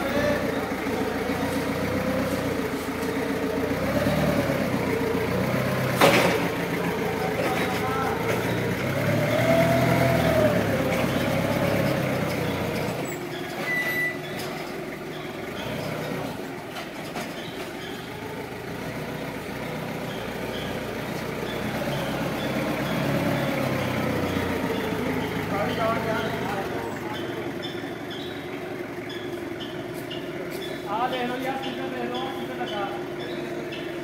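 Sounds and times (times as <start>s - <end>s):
forklift engine humming and whining: 0.0s - 34.0s.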